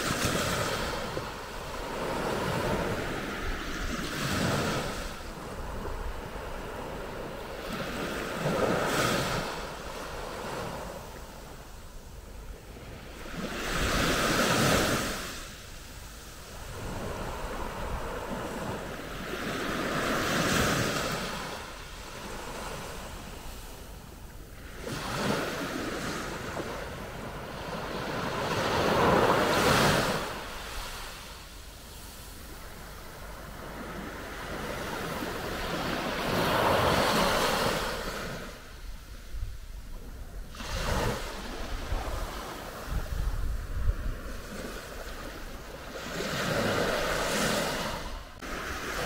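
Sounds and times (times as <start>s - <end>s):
waves breaking on sandy beach: 0.0s - 49.0s.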